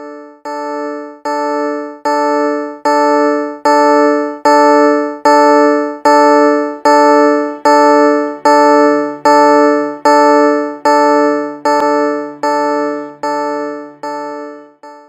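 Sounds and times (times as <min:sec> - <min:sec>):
electronic bell-like alarm tone: 0:00.0 - 0:15.0.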